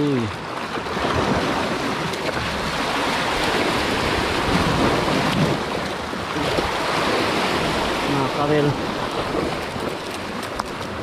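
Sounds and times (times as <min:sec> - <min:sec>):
surf washing against rocks: 0:00.0 - 0:11.0
wind buffeting microphone: 0:00.0 - 0:11.0.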